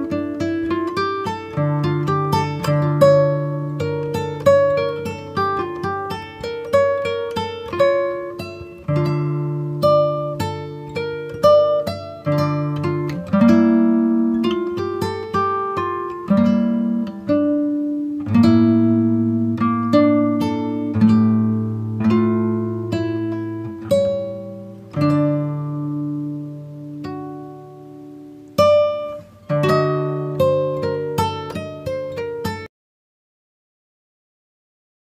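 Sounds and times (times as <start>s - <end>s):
plucked acoustic guitar: 0.0s - 32.7s.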